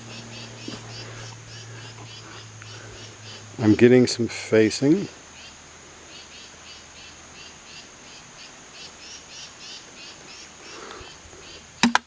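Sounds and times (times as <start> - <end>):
crickets chirping: 0.0 - 12.0
high insect trill: 0.0 - 12.0.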